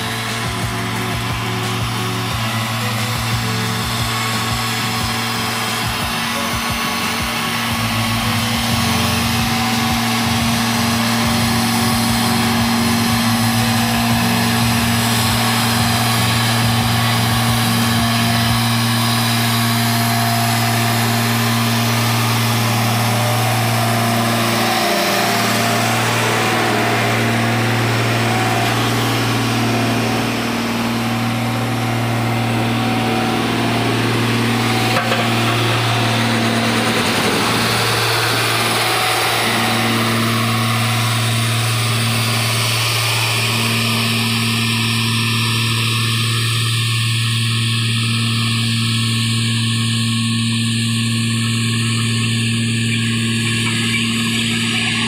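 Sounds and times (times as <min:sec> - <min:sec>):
diesel engine running at high revs: 0:00.0 - 0:55.0.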